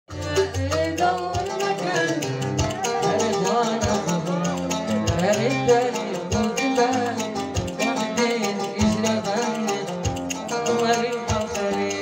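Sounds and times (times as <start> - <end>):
keyboard plucked-string melody: 0.1 - 12.0
man singing into a microphone: 0.1 - 12.0
programmed drum beat: 0.1 - 12.0.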